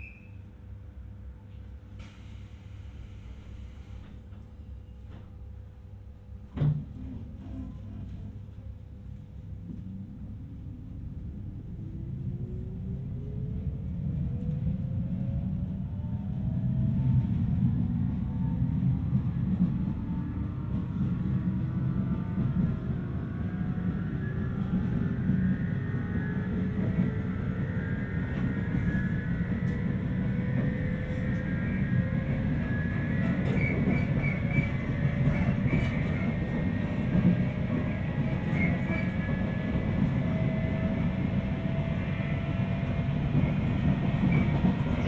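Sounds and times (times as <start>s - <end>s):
train running gear rumble: 4.0s - 45.0s.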